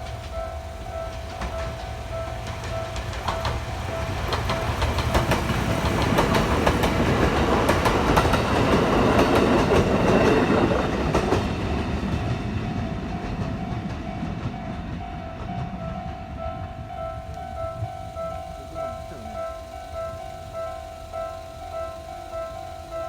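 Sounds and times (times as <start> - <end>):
level crossing warning bell: 0.0 - 23.0
train wheels clacking on rail joints: 0.0 - 23.0.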